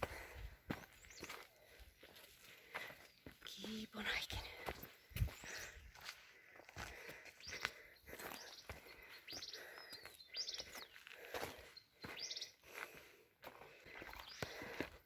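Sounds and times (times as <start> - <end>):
footsteps on rocky trail: 0.0 - 15.0.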